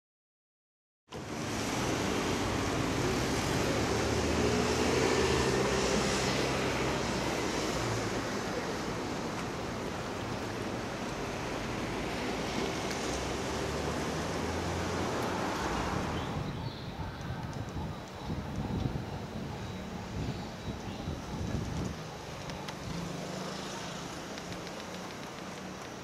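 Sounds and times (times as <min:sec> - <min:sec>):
road traffic: 0:01.1 - 0:26.0
wind: 0:01.1 - 0:26.0.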